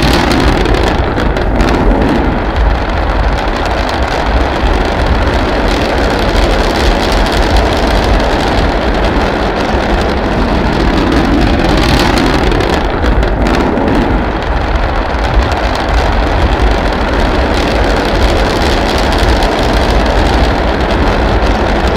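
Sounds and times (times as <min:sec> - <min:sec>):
rocket engine rumbling: 0:00.0 - 0:21.9.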